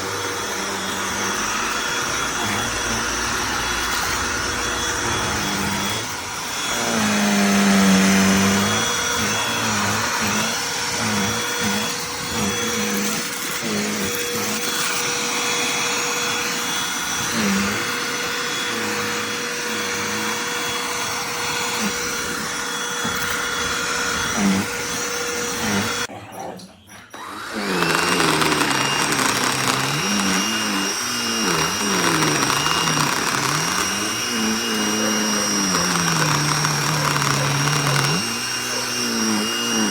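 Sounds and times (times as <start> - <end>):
handheld vacuum motor running: 0.0 - 26.1, 27.1 - 39.9.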